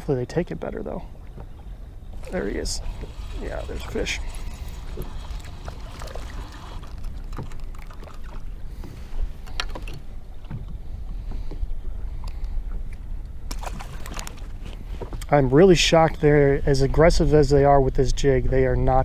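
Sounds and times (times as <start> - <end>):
water lapping around boat: 0.0 - 19.0
wind rumbling on microphone: 1.0 - 19.0.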